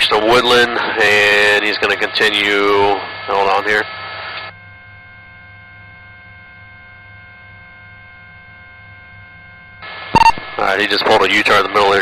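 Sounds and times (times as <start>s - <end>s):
electrical hum: 0.0s - 12.0s
faint steady tones: 0.0s - 12.0s.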